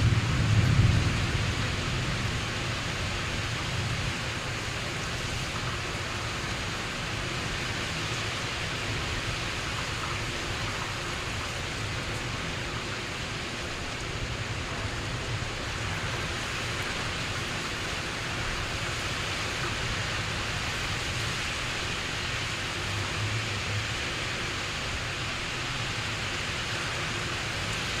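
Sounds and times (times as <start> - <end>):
low rumble of wind: 0.0 - 28.0
steady rain falling: 0.0 - 28.0.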